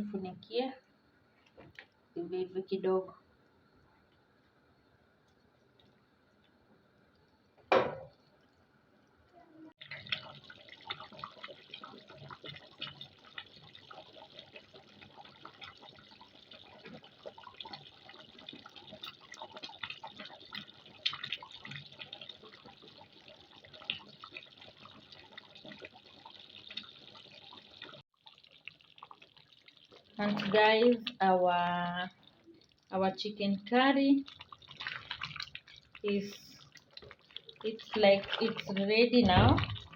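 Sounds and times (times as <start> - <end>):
curry bubbling in a pot: 0.6 - 39.9.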